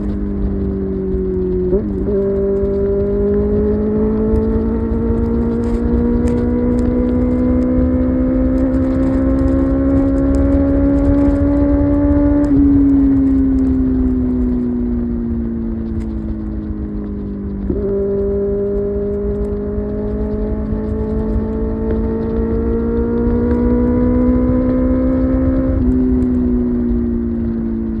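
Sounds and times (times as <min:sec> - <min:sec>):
motorcycle engine under throttle: 0:00.0 - 0:28.0
wind rush: 0:00.0 - 0:28.0.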